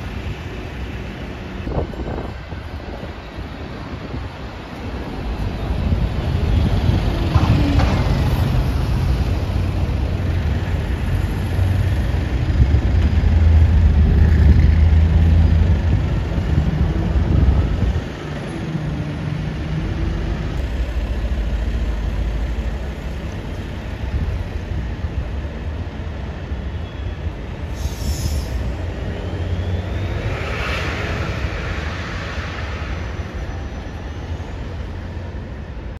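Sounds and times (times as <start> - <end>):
bus passing with low rumble: 0.0 - 35.9
street traffic: 0.0 - 35.9.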